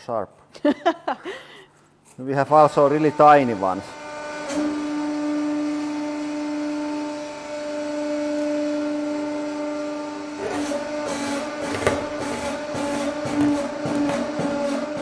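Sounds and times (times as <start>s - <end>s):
hydraulic press humming: 2.3s - 15.0s.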